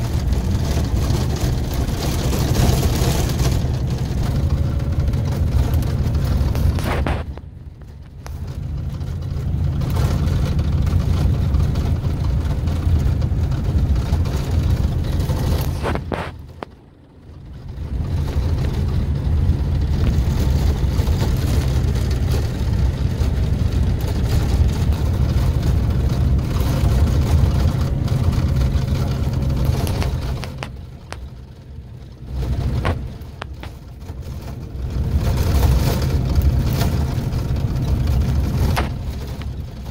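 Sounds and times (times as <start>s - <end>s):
coach engine humming: 0.0s - 39.9s.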